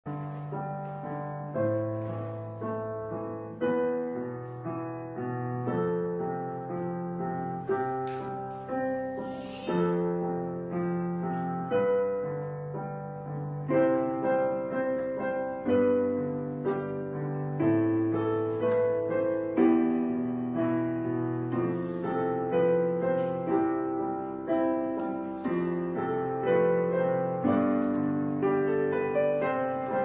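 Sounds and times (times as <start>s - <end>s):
slow gentle piano music: 0.0s - 30.0s.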